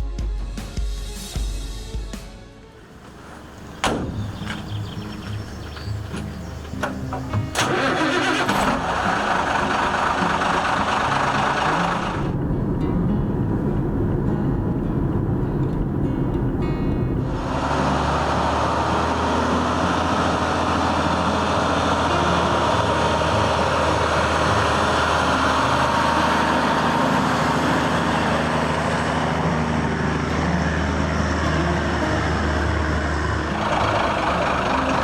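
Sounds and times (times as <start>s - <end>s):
heavy vehicle engine running: 2.8s - 35.0s.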